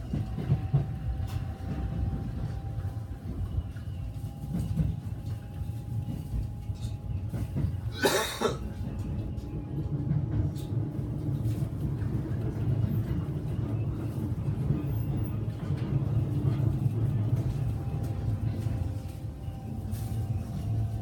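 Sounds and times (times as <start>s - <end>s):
train rumble from inside car: 0.0s - 21.0s.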